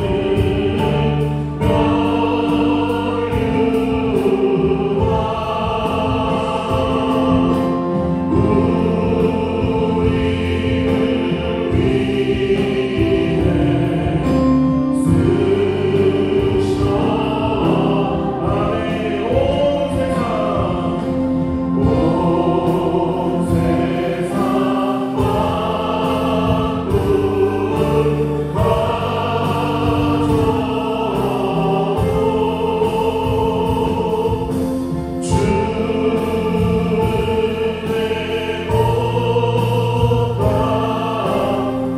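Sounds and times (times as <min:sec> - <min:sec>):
bass guitar: 0:00.0 - 0:41.9
drums: 0:00.0 - 0:41.9
group singing worship song: 0:00.0 - 0:41.9
keyboard: 0:00.0 - 0:41.9.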